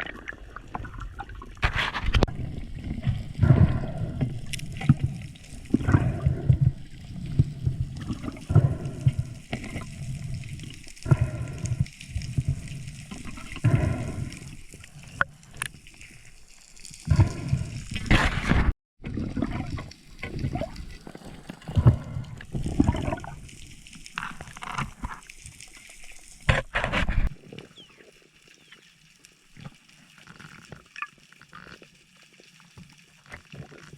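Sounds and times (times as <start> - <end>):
water gurgling and sloshing: 0.0 - 33.9.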